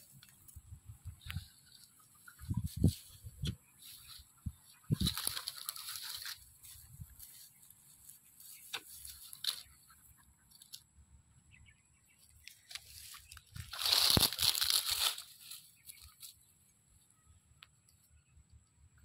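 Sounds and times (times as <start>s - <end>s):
dry grass rustling: 0.0s - 10.8s, 12.2s - 17.1s.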